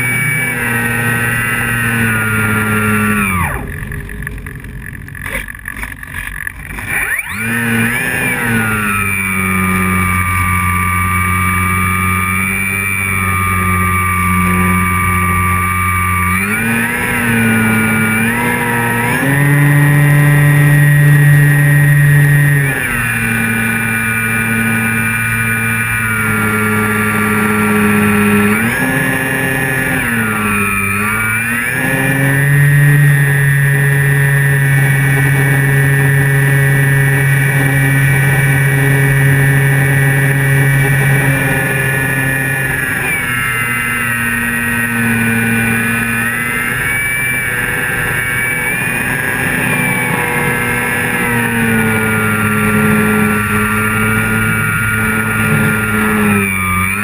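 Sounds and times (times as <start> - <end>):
model plane electric motor whine: 0.0 - 57.0.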